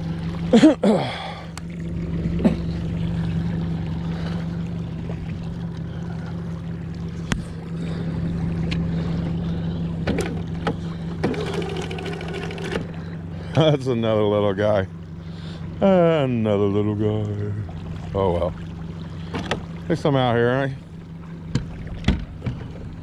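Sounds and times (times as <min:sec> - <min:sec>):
outboard motor humming: 0:00.0 - 0:23.0.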